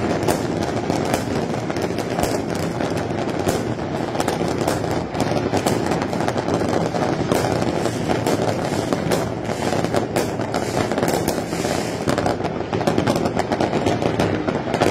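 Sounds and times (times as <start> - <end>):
fireworks crackling and banging: 0.0 - 14.9.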